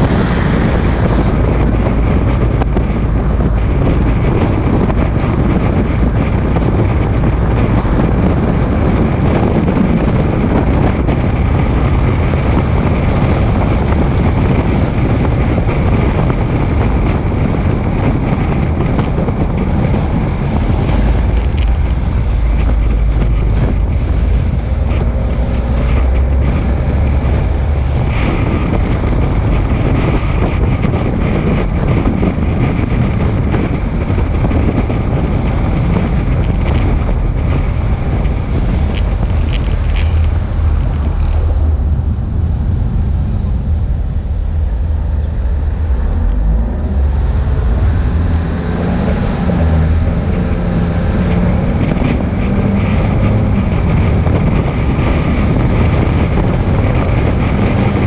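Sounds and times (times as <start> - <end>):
vehicle running: 0.0 - 58.0
wind buffeting microphone: 0.0 - 58.0.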